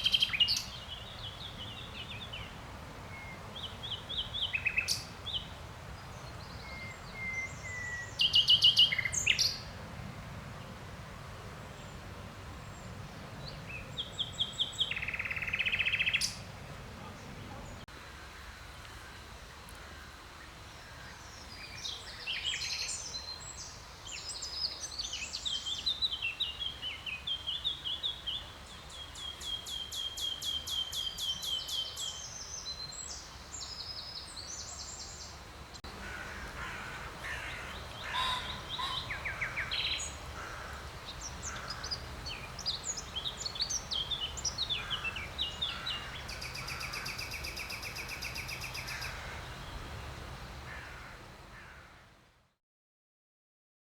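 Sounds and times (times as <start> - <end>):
songbirds singing: 0.0 - 9.8, 11.5 - 51.9.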